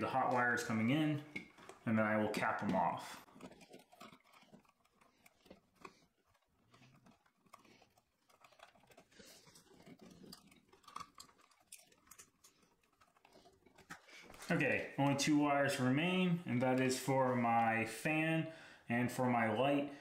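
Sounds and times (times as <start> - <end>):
electrical wires crackling and clicking: 0.0 - 18.1.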